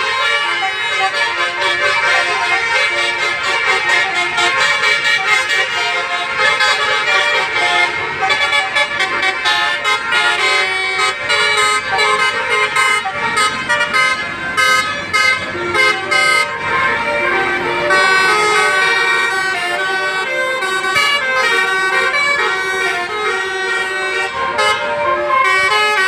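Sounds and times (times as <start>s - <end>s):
multi-tone bus horn melody: 0.0s - 26.0s.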